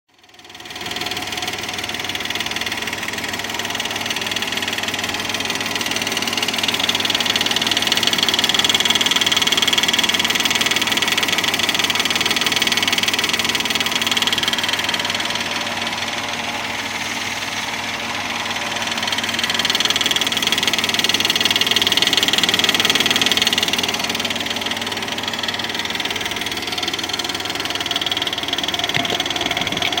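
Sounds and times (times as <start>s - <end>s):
car engine idling: 0.1s - 30.0s.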